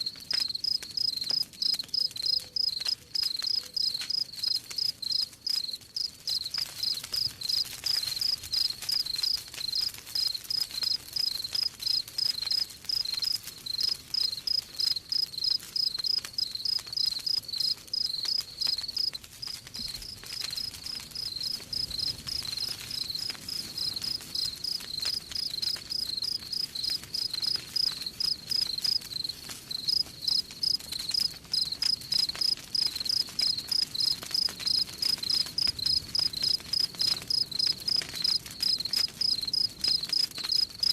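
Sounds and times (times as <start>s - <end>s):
campfire crackling: 0.0s - 40.9s
crickets chirping: 0.4s - 7.6s, 8.2s - 19.2s, 19.8s - 40.7s.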